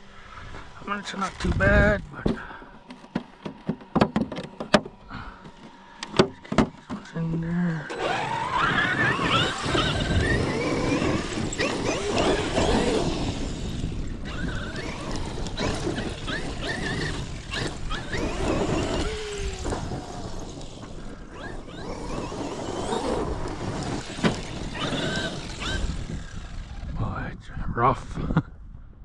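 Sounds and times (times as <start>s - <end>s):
rc truck motor whining: 0.5s - 27.0s
tires scrabbling on dirt: 0.5s - 27.3s.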